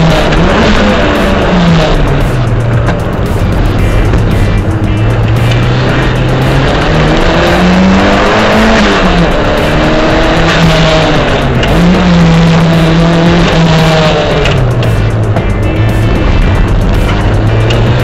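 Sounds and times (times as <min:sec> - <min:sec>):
car engine at high revs: 0:00.0 - 0:18.0
road and tyre noise: 0:00.0 - 0:18.0.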